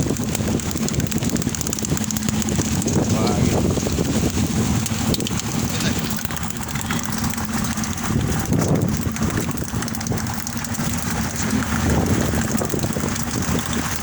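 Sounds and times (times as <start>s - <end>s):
boat engine humming: 0.0s - 14.0s
water noise: 0.0s - 14.0s
wind: 0.0s - 14.0s.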